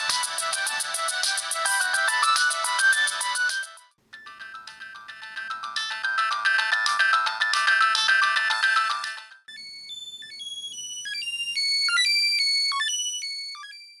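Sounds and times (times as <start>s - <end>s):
busy ringtone tune: 0.0s - 13.8s
ringtone of high notes: 0.0s - 14.0s.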